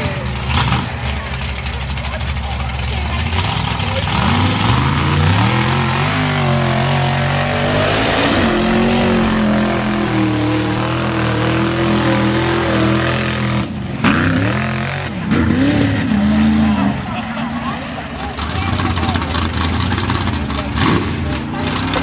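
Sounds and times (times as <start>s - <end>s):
drag truck engine revving: 0.0s - 22.0s.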